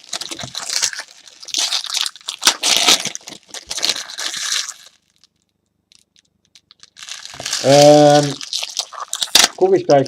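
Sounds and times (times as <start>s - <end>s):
plastic packaging crumpled: 0.0s - 10.0s.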